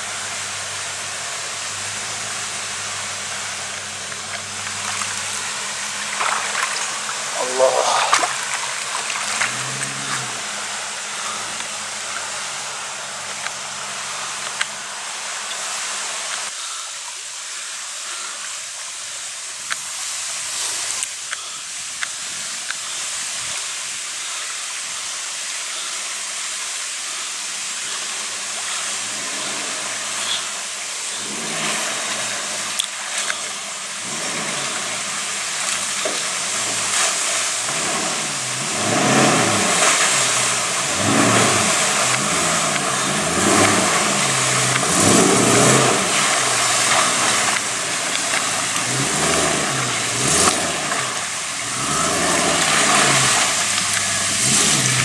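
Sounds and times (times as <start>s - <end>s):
four-by-four engine running: 0.0s - 55.0s
flowing river water rushing: 0.1s - 55.0s.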